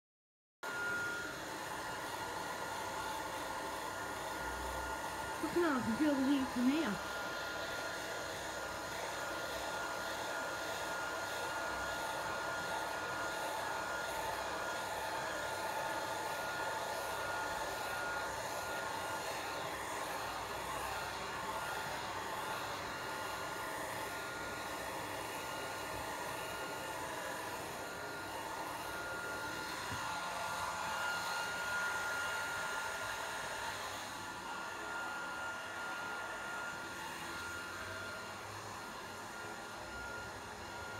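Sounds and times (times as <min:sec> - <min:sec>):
hair dryer running: 0:00.6 - 0:40.9.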